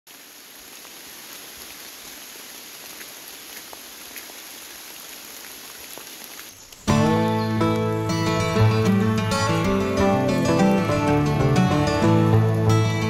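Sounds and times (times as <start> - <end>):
steady rain in forest: 0.1 - 13.0.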